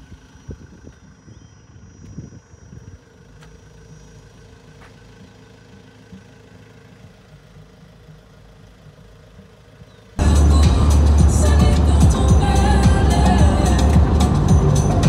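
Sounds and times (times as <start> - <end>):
low uneven rumbles: 0.0 - 15.0
pickup truck engine idling: 0.0 - 15.0.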